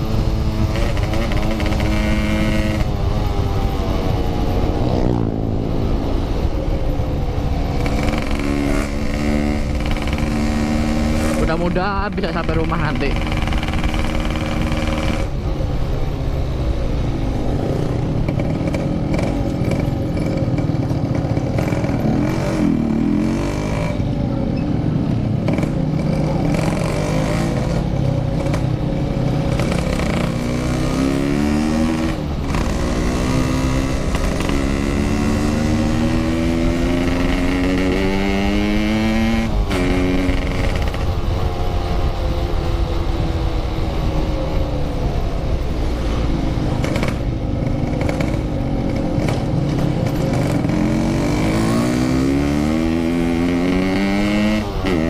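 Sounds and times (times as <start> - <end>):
motorcycle engine revving: 0.0 - 16.2, 17.0 - 55.0
low wind rumble: 0.0 - 55.0.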